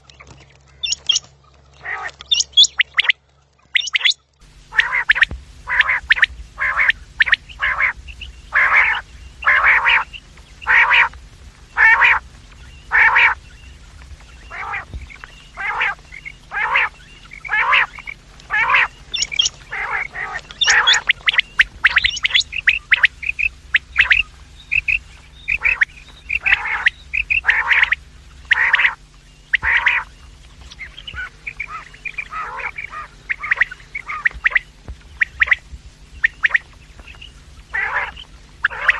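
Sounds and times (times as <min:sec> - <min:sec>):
quail calling: 0:00.2 - 0:38.9.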